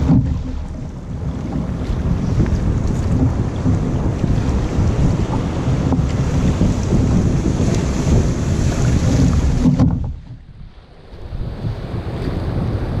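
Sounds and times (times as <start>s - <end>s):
water rushing along kayak hull: 0.0s - 13.0s
wind buffeting microphone: 0.0s - 13.0s.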